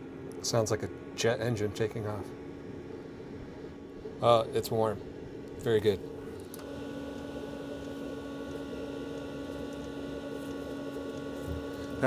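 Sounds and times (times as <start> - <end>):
heater blower fan whirring: 0.0 - 12.0.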